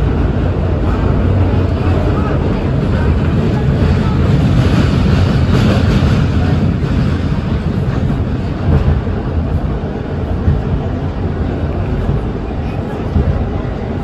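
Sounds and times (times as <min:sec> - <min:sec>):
subway car wheels rumbling: 0:00.0 - 0:14.0.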